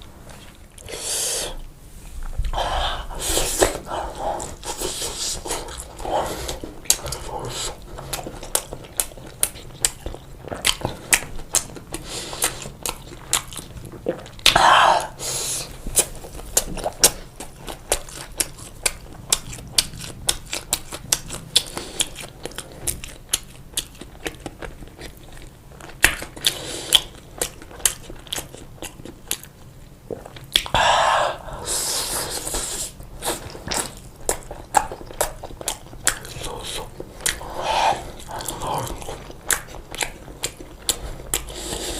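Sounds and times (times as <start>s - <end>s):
close chewing mouth clicks: 3.4s - 14.6s, 16.0s - 30.8s, 32.4s - 41.9s.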